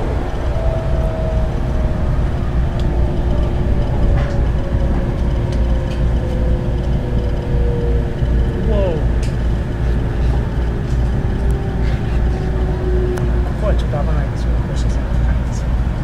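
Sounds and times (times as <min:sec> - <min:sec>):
steady hum: 0:00.0 - 0:16.0
train low rumble: 0:00.0 - 0:16.0.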